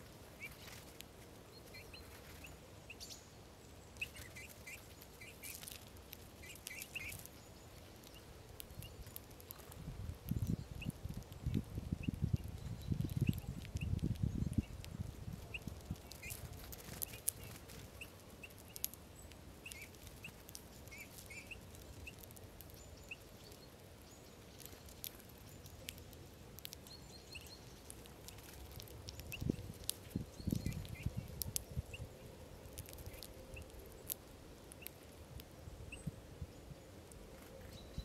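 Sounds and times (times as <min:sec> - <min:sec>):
clicks of birds pecking: 0:00.0 - 0:03.1, 0:03.9 - 0:35.6
soft bird calls: 0:00.0 - 0:38.0.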